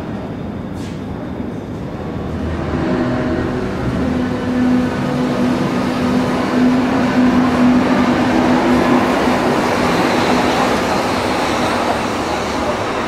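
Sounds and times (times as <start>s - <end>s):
train wheels and motors rumbling: 0.0s - 13.0s.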